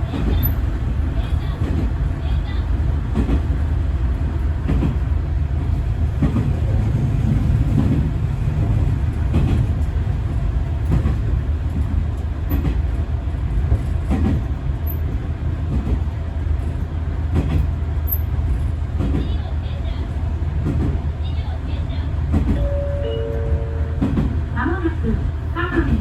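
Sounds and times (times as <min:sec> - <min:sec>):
railcar rumbling: 0:00.0 - 0:26.0.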